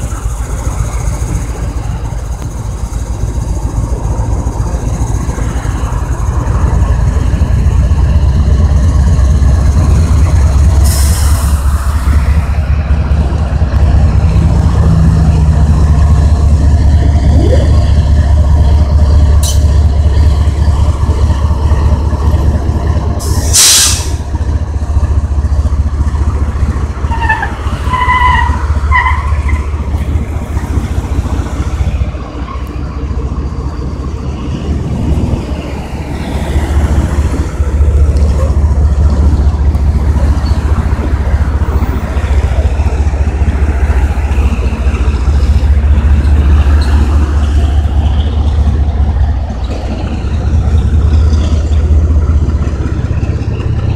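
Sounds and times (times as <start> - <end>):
diesel locomotive rumble: 0.0 - 53.9
freight cars rolling past: 0.0 - 53.9.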